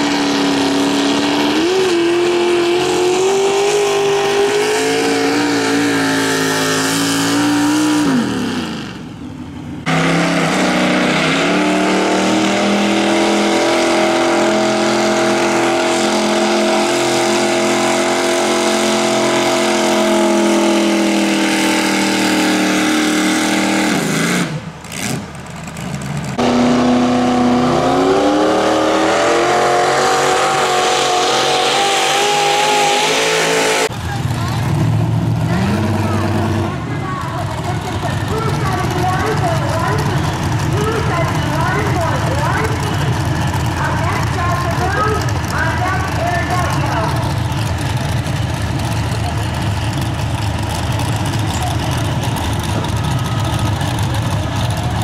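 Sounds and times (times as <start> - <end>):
tractor engines running loudly: 0.0 - 55.0.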